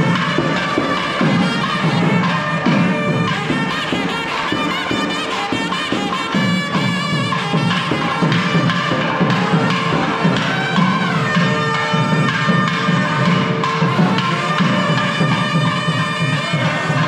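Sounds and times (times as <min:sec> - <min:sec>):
drum strokes: 0:00.0 - 0:17.0
reedy wind instrument melody: 0:00.0 - 0:17.0.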